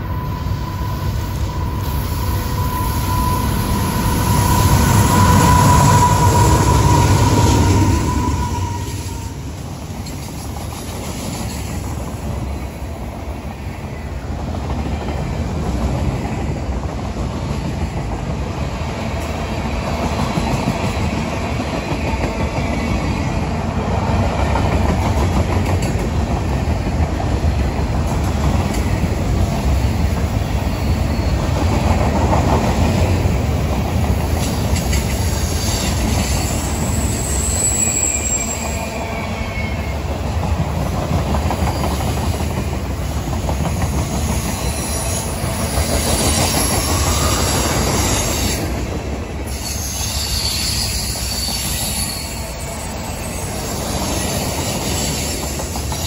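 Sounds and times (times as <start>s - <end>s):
diesel locomotive whine and rumble: 0.0s - 56.0s.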